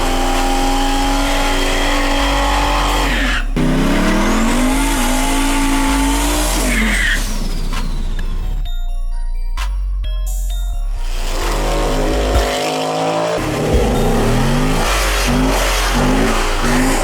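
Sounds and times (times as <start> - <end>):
tires squealing: 0.0 - 7.9, 11.1 - 17.0
car engine at high revs: 0.0 - 8.1, 11.0 - 17.0.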